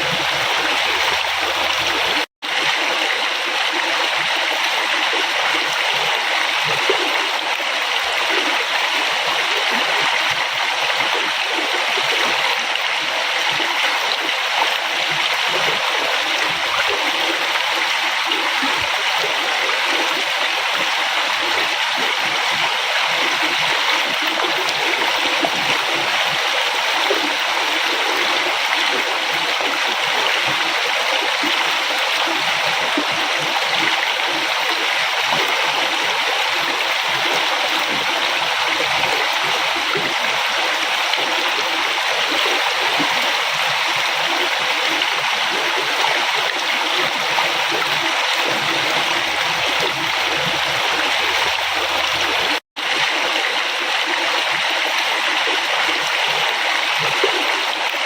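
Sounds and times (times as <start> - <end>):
river flowing over rocks: 0.0 - 9.4, 10.4 - 58.0.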